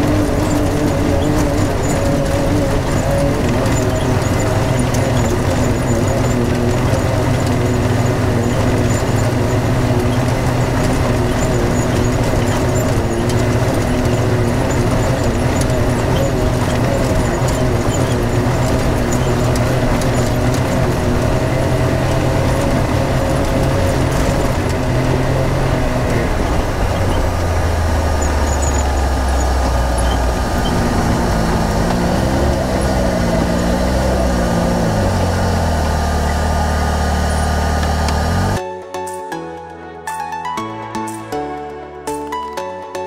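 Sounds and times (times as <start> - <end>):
tyre and road noise: 0.0 - 38.6
utv engine running: 0.0 - 38.6.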